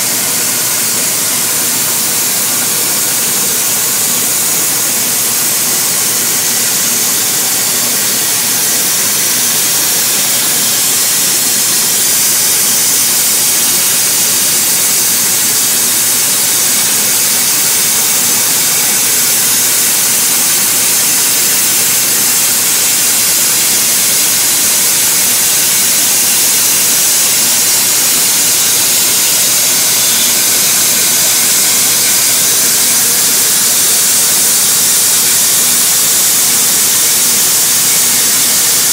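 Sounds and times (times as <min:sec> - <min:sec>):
cnc router machining wood: 0:00.0 - 0:38.9.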